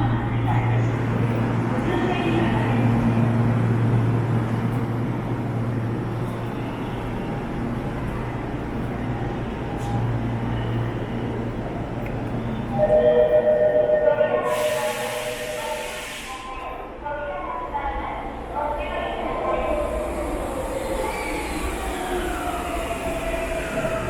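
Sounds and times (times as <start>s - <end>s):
rail traffic hum and rumble: 0.0s - 24.0s.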